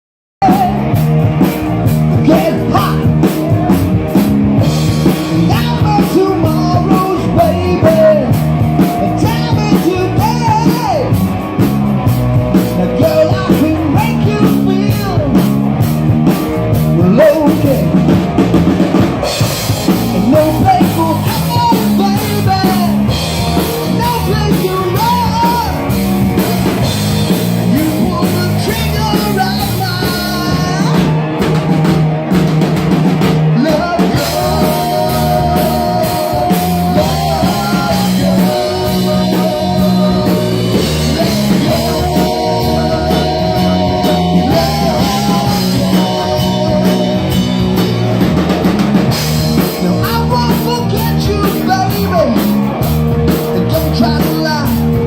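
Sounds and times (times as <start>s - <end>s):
person singing: 0.4s - 3.9s, 4.8s - 11.3s, 12.5s - 15.5s, 19.9s - 31.5s, 33.5s - 48.6s, 49.2s - 55.0s
drum kit beating: 0.4s - 55.0s
rock band playing: 0.4s - 55.0s.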